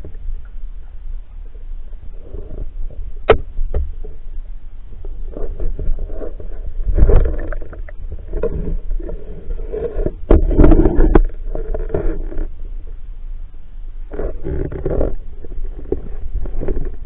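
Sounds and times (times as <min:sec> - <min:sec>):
muffled underwater rumbling and sloshing: 0:00.0 - 0:17.0.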